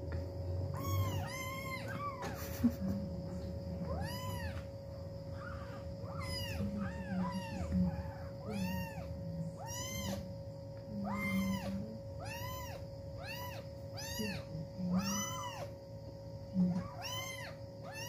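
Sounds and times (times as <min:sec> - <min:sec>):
kittens mewing: 0:00.7 - 0:03.2, 0:03.8 - 0:04.7, 0:05.3 - 0:10.3, 0:11.0 - 0:15.8, 0:16.6 - 0:18.0.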